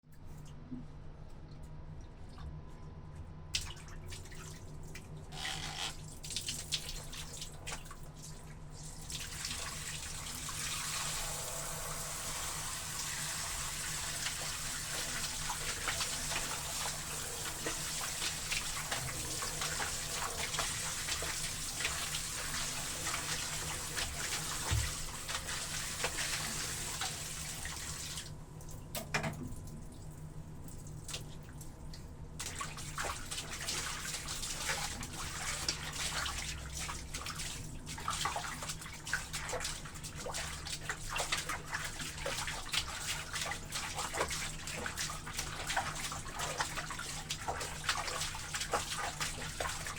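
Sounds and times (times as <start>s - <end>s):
tap water running into basin: 3.6s - 28.3s, 32.4s - 49.9s.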